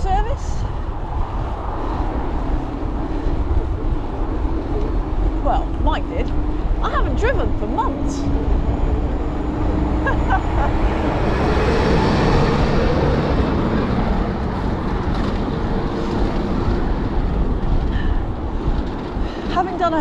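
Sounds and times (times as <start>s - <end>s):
bicycle tyre and road noise: 0.0s - 20.0s
road traffic passing: 0.0s - 20.0s
wind buffeting microphone: 0.0s - 20.0s.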